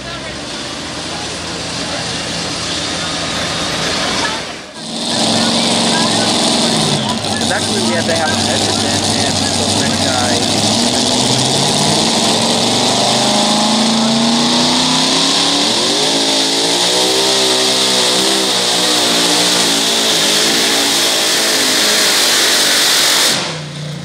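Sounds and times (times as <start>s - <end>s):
truck engine at full throttle: 0.0s - 24.0s.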